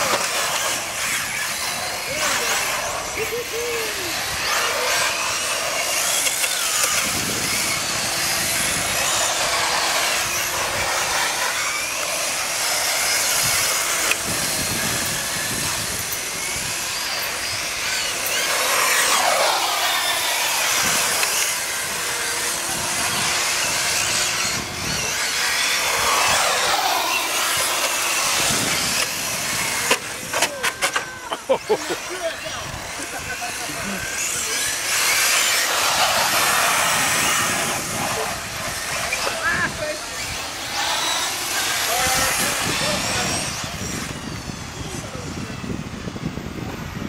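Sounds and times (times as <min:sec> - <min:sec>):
small motors whining: 0:00.0 - 0:47.0.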